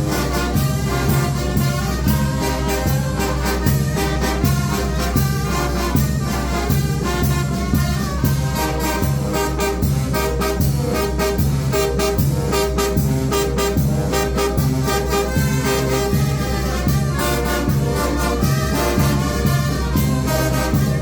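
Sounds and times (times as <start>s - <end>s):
bass line: 0.0s - 21.0s
drum and cymbal beat: 0.0s - 21.0s
trumpets and trombones: 0.0s - 21.0s.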